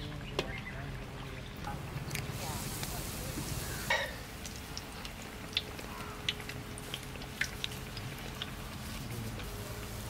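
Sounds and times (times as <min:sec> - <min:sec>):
oil crackling and popping: 0:01.4 - 0:10.0.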